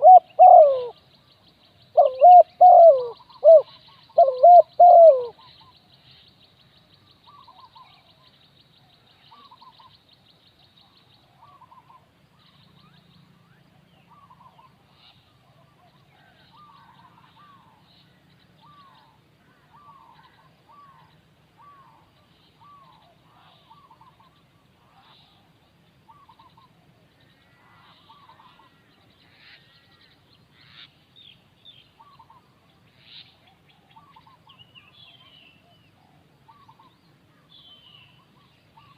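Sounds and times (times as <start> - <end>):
bird calls: 0.0 - 38.9.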